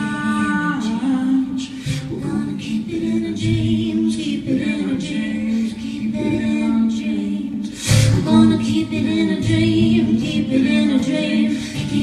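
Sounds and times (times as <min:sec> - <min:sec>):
rhythmic accompaniment strokes: 0:00.0 - 0:12.0.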